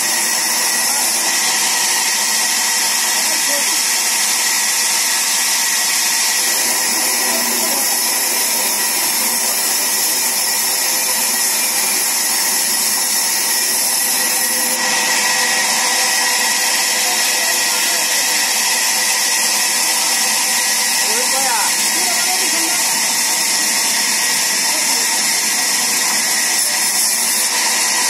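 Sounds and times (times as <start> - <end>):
band saw whining: 0.0 - 28.0.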